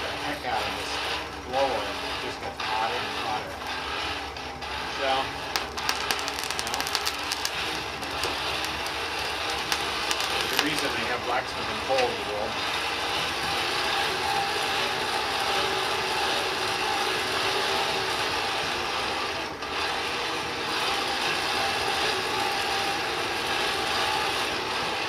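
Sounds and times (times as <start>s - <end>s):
hand-cranked blower gears whirring: 0.0s - 25.0s.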